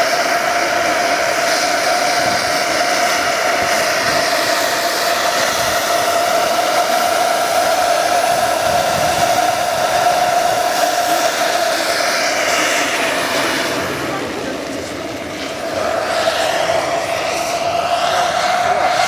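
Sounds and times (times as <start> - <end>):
gas turbine engine whine: 0.0 - 19.0.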